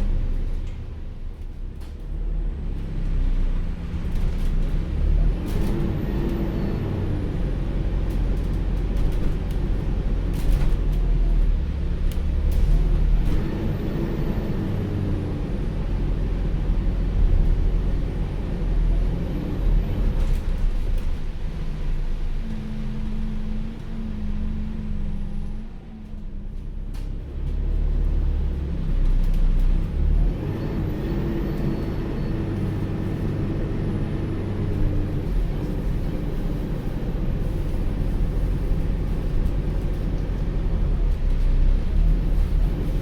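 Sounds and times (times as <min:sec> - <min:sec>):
bus drivetrain and road rumble: 0:00.0 - 0:43.0
bus motor whine: 0:00.3 - 0:43.0.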